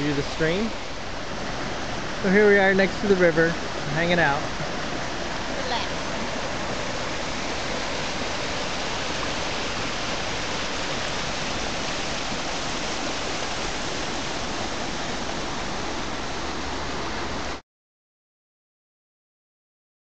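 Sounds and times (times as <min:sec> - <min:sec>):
river rushing over stones: 0:00.0 - 0:17.6.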